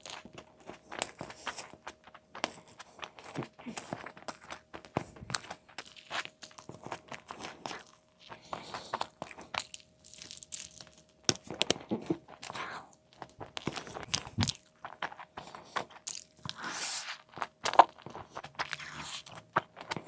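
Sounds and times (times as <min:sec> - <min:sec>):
crunching and chewing food: 0:00.0 - 0:20.0.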